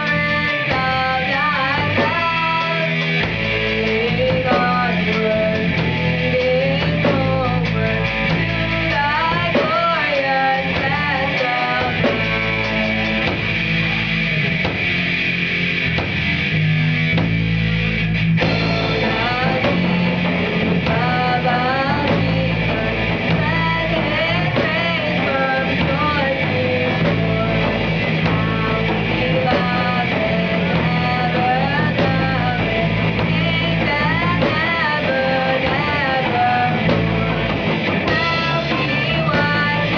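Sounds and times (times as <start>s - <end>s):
person singing: 0.0s - 12.5s, 18.6s - 39.9s
drums: 0.0s - 39.9s
electric guitar: 0.0s - 39.9s.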